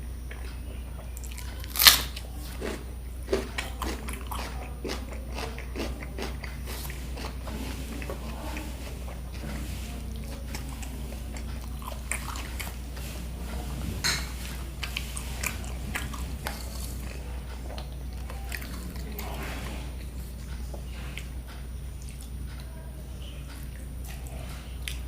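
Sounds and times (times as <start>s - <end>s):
person chewing crisp food: 0.2s - 22.8s, 23.4s - 25.0s.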